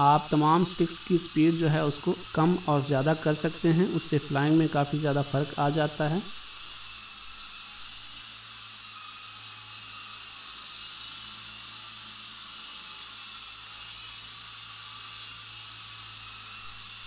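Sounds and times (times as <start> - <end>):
toy helicopter motor whir: 0.0 - 17.0.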